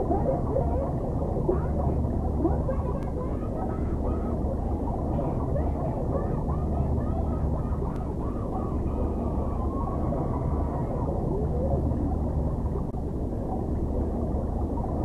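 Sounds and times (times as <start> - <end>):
muffled underwater shouting: 0.0 - 12.7
steady low rumble: 0.0 - 15.0.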